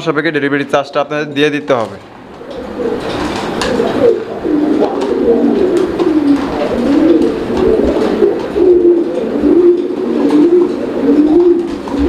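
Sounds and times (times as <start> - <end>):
pigeons cooing: 2.0 - 12.0.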